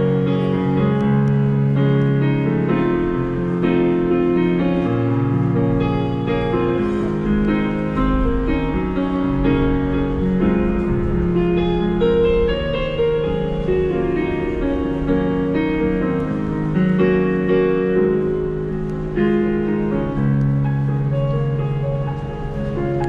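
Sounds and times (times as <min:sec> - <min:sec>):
electronic keyboard piano chords: 0:00.0 - 0:23.0.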